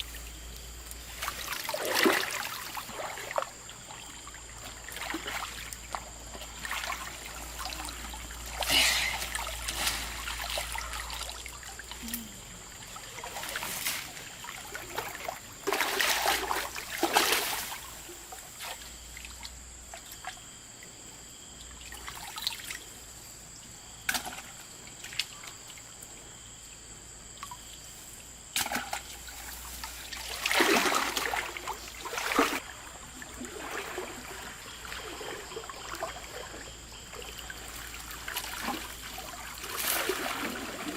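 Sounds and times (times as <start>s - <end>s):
water splashing and trickling: 0.0s - 26.1s, 27.2s - 40.9s.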